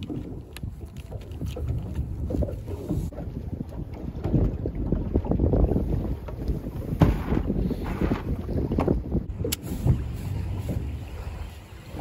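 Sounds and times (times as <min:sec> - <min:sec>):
faint sea: 0:00.0 - 0:12.0
wind buffeting microphone: 0:00.0 - 0:12.0.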